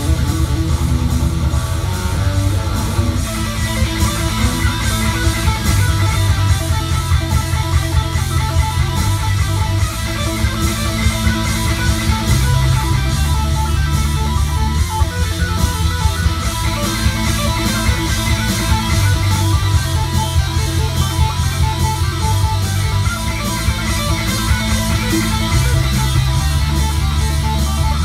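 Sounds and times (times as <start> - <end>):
electric guitar riff: 0.0 - 28.0.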